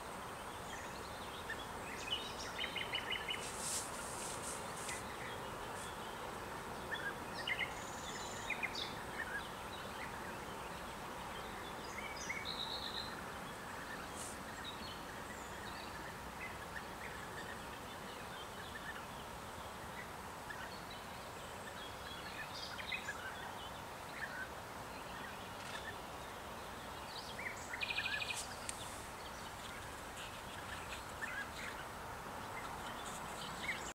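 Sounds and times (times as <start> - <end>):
birds chirping: 0.0 - 33.9
steady outdoor hiss: 0.0 - 33.9.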